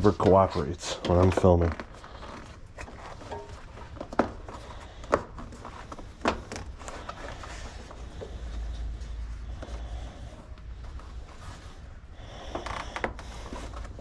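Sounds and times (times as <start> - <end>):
tire rubbing and handling noise: 0.0 - 14.0.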